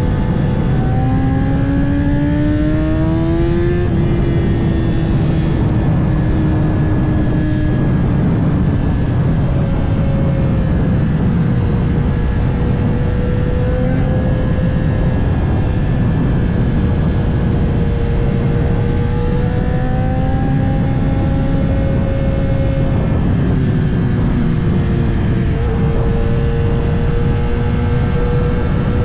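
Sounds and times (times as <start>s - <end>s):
motorcycle engine running: 0.0s - 29.0s
low rushing noise: 2.7s - 29.0s.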